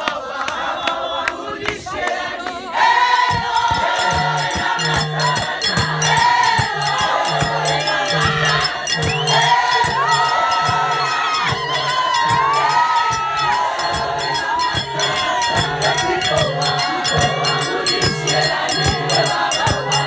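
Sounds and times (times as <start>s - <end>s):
women's choir singing: 0.0s - 20.0s
steady percussive beat: 2.8s - 20.0s.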